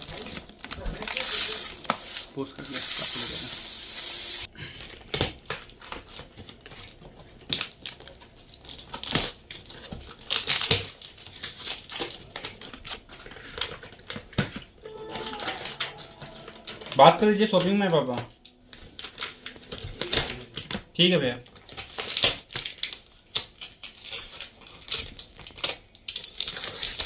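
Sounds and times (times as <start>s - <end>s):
packaging crinkling and rustling: 0.0s - 27.0s.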